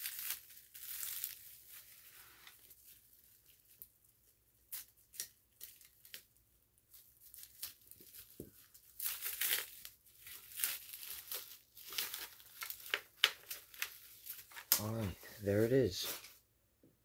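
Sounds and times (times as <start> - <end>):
packaging crinkling and ripping: 0.0 - 15.1.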